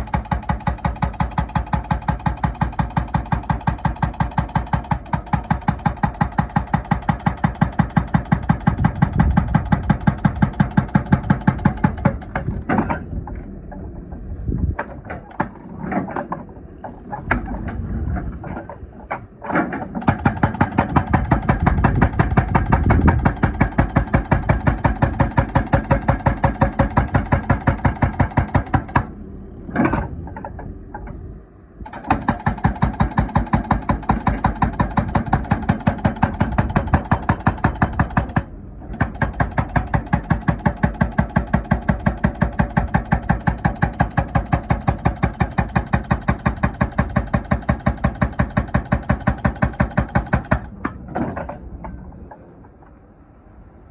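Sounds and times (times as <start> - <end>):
hydraulic breaker hammering: 0.0 - 13.9, 18.6 - 31.2, 31.8 - 53.0
excavator engine running: 0.0 - 53.9.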